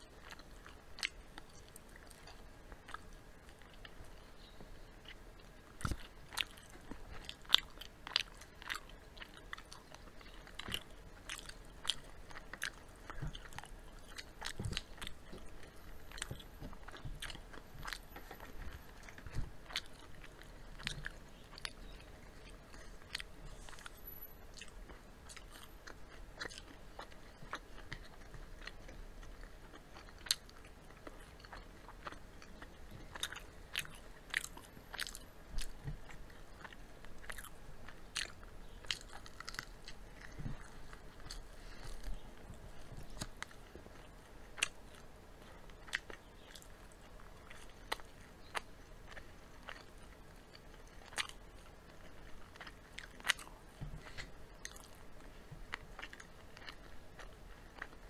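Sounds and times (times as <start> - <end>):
crunching and chewing food: 0.0 - 58.0.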